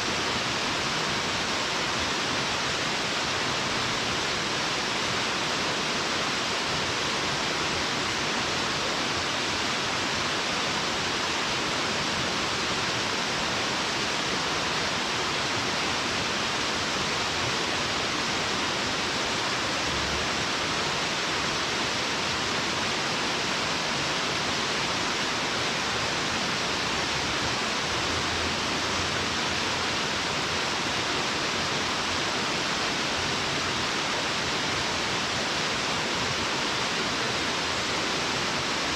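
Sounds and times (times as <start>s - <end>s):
distant waterfall roar: 0.0s - 38.9s.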